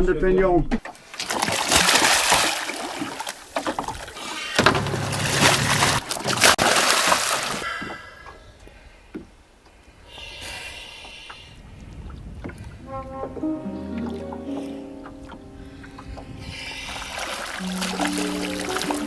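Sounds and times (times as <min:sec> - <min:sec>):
water splashing and sloshing: 0:00.8 - 0:10.3, 0:10.9 - 0:19.0.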